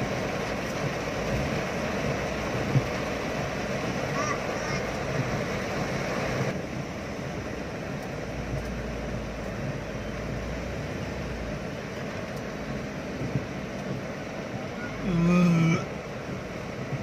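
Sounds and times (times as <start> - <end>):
heavy rain on car: 0.0 - 17.0
surrounding traffic: 0.0 - 17.0.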